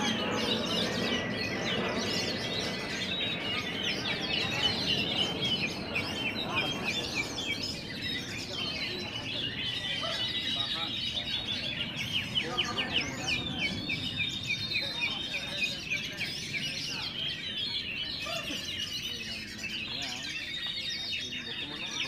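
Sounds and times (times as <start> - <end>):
caged birds singing and chirping: 0.0 - 22.0
murmur of crowd voices: 0.0 - 22.0.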